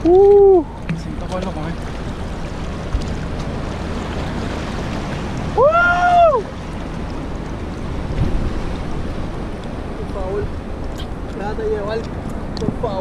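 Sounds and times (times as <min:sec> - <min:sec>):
water sloshing around rocks: 0:00.0 - 0:13.0
wind buffeting microphone: 0:00.0 - 0:13.0.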